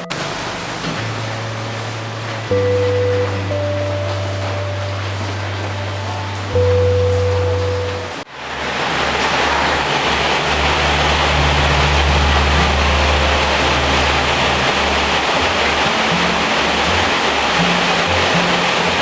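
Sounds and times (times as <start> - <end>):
heavy rain on a metal roof: 0.0 - 19.0
low droning tones: 0.0 - 19.0.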